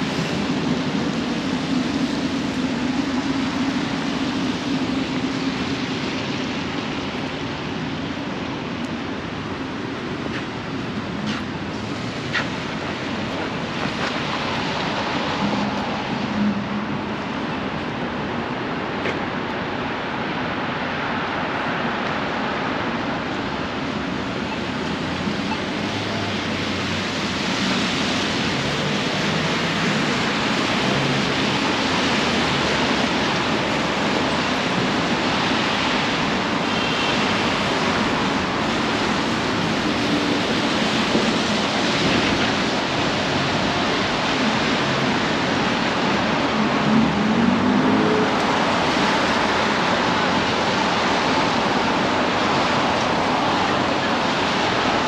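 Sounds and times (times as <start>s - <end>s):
traffic on wet streets: 0.0s - 55.0s.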